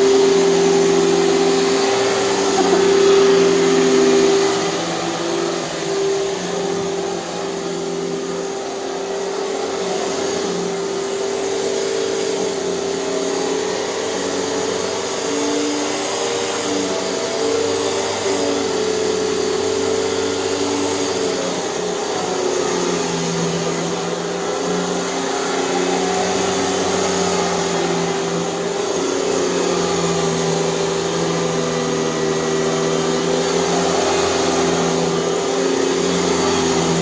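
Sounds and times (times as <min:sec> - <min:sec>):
vacuum cleaner running on carpet: 0:00.0 - 0:37.0.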